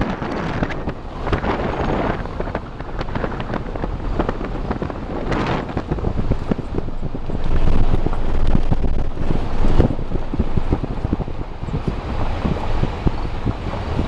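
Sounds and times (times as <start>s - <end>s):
vehicle rumbling: 0.0s - 14.0s
wind buffeting microphone: 0.0s - 14.0s.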